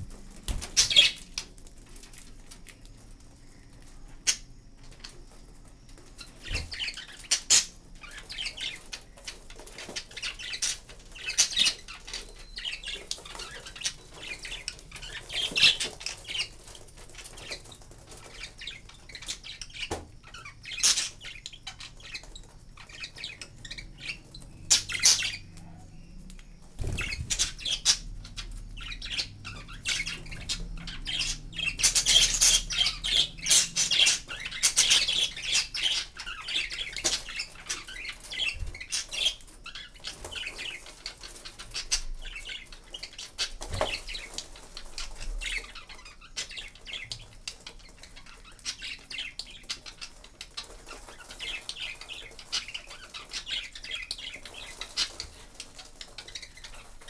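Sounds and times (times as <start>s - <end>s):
budgerigars chirping: 0.5s - 1.4s, 6.2s - 16.6s, 17.3s - 26.1s, 26.8s - 57.0s.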